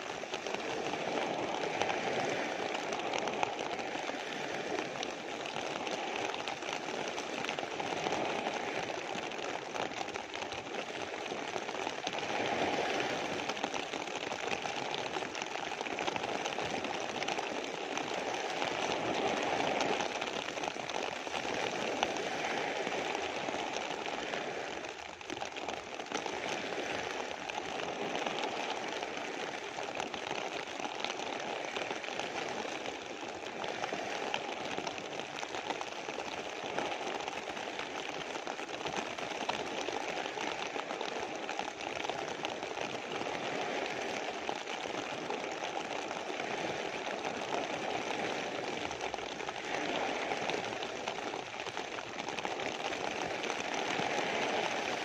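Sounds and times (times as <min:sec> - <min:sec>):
rain on plastic sheet: 0:00.0 - 0:55.0
waves breaking on pebble beach: 0:00.0 - 0:55.0.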